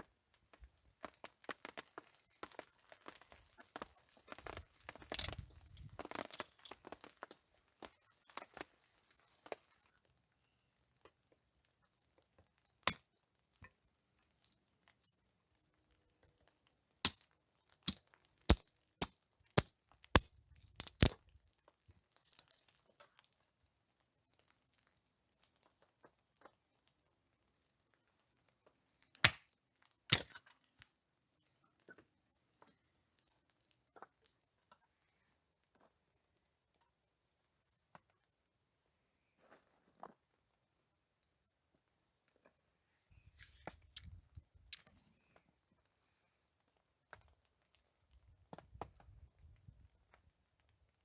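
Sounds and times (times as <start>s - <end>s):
faint rustling and crinkling: 0.0s - 18.4s, 20.6s - 51.0s.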